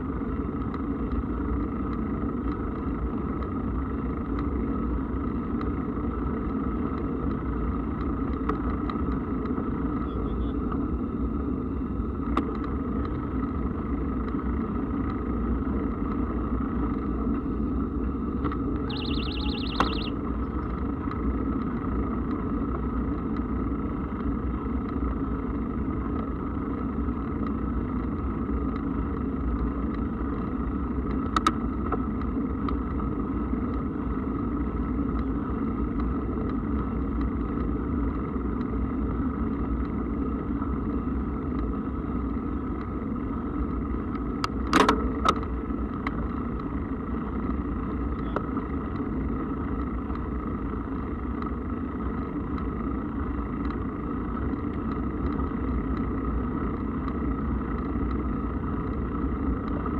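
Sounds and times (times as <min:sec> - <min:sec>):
bike tyres rolling hum: 0:00.0 - 0:59.9.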